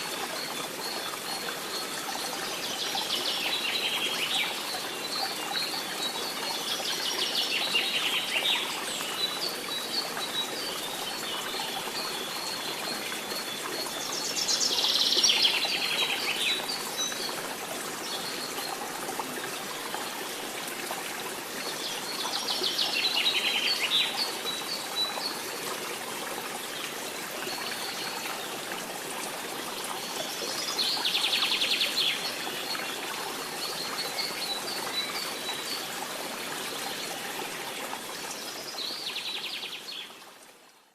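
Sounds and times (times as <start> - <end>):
running water hiss: 0.0 - 40.9.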